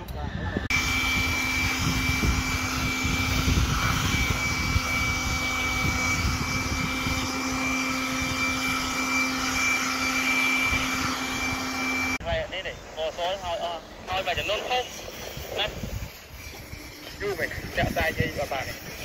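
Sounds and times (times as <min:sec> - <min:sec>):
power tool whining: 0:00.0 - 0:19.0.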